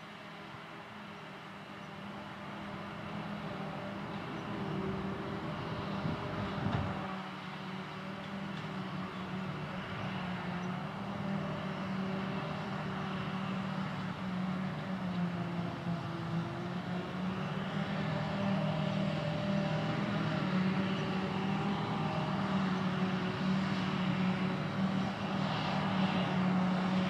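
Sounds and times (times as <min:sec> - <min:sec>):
forage harvester drone: 0:00.0 - 0:27.0.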